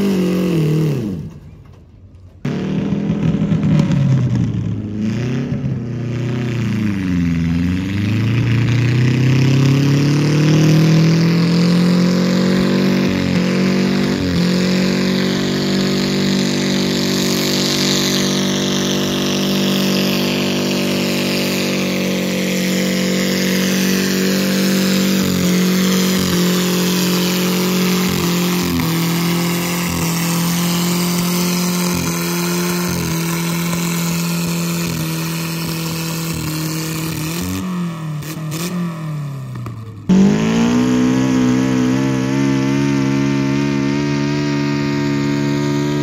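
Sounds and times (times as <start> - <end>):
pulling tractor engine revving: 0.0 - 46.0.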